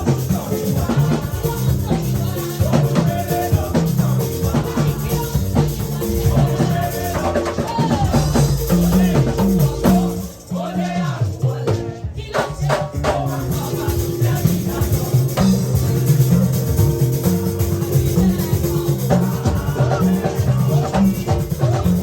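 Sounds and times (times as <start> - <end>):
church band playing: 0.0 - 22.0.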